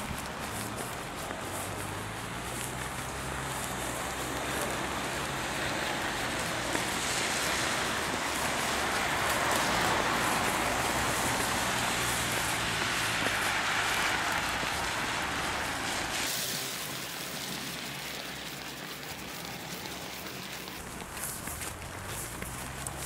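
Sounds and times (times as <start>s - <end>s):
faint low engine hum: 0.0s - 23.0s
rain: 0.0s - 23.0s
tyre hiss on wet asphalt: 0.0s - 23.0s.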